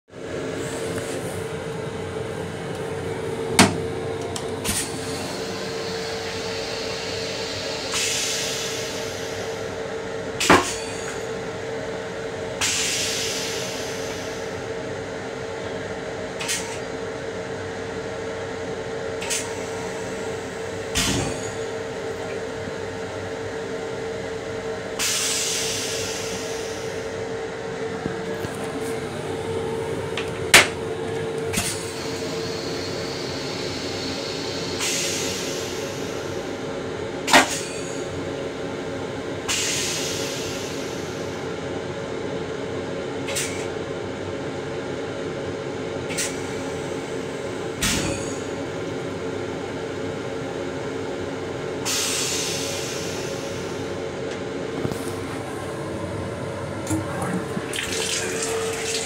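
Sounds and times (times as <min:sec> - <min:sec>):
railcar interior hum: 0:00.1 - 0:58.7.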